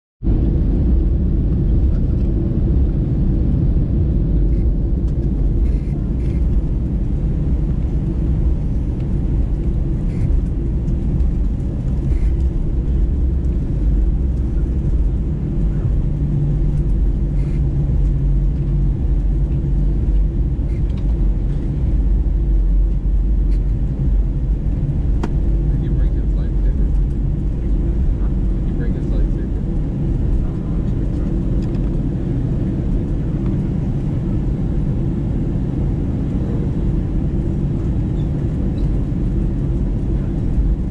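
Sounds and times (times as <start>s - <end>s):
aircraft cabin low rumble: 0.2s - 40.9s.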